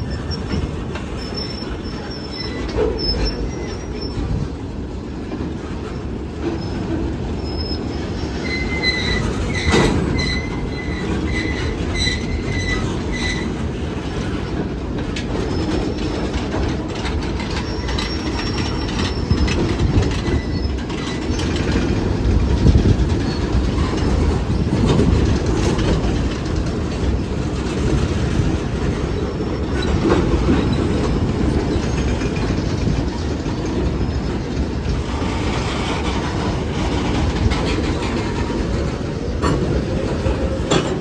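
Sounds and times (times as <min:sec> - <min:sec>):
wheels squealing: 0:00.0 - 0:04.5, 0:05.8 - 0:14.4, 0:15.3 - 0:41.0
train wheels clicking over rail joints: 0:00.0 - 0:41.0.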